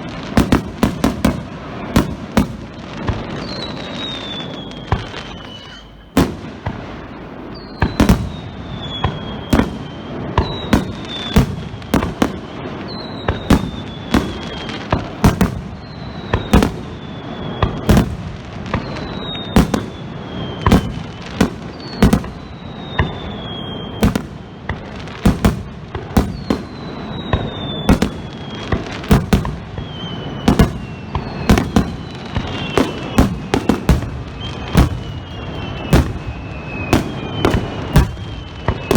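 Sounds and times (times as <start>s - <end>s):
falling firework whistle: 0.0s - 38.9s
fireworks bursting with bangs: 0.0s - 38.9s.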